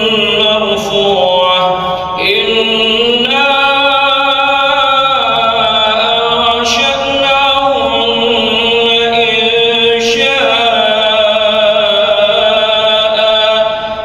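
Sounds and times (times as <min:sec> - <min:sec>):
person chanting: 0:00.0 - 0:14.0.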